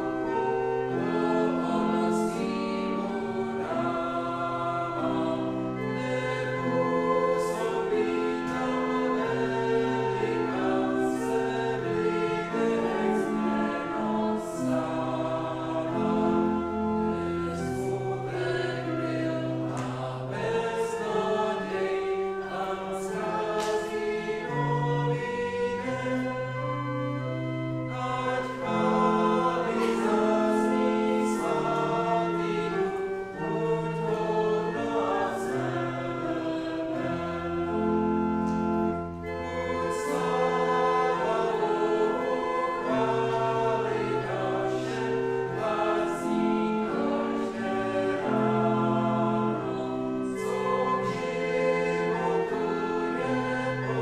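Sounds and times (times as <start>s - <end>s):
congregation singing a hymn: 0.0s - 54.0s
pipe organ chords: 0.0s - 54.0s.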